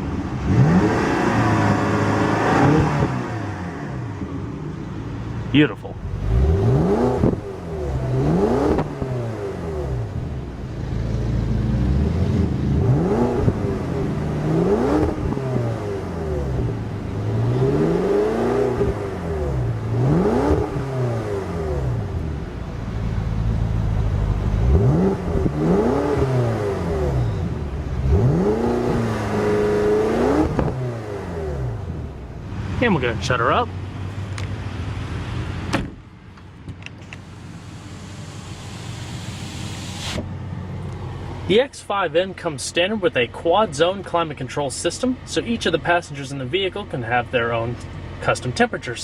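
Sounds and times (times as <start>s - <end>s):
car engine revving: 0.0s - 35.8s, 37.0s - 49.0s.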